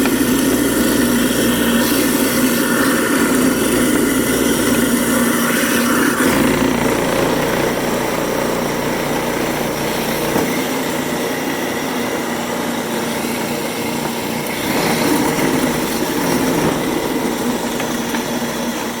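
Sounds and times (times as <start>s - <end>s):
electric grinder grinding apples: 0.0s - 19.0s.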